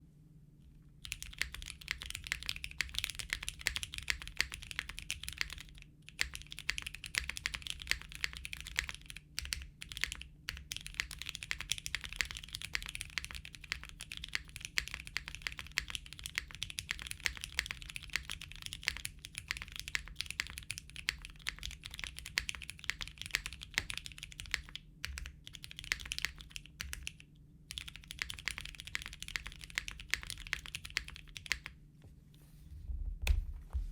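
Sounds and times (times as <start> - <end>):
fast typing on mechanical keyboard: 1.0 - 31.8.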